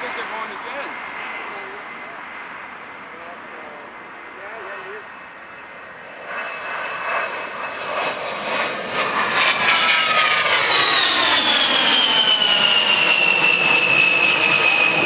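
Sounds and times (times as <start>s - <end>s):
jet flyby with fan whine: 0.0s - 15.0s.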